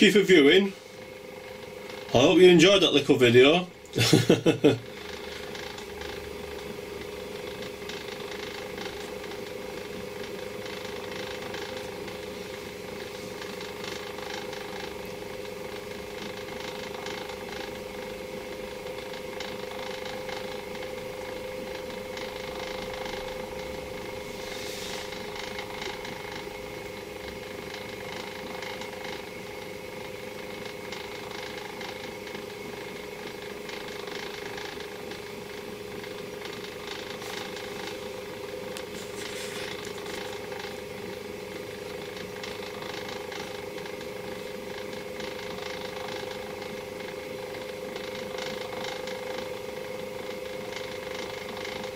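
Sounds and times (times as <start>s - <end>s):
small electric motor humming: 0.4s - 51.9s.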